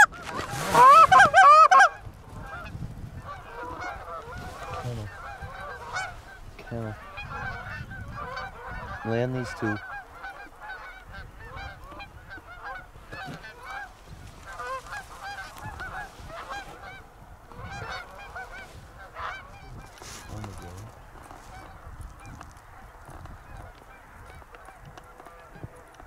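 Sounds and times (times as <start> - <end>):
geese honking and clucking: 0.0 - 26.0
wind rumble on microphone: 0.0 - 26.0.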